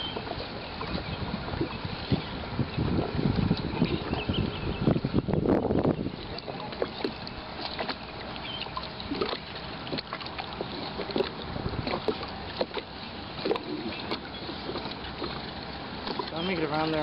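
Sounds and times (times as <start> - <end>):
water lapping: 0.0 - 17.0
wind: 0.0 - 17.0.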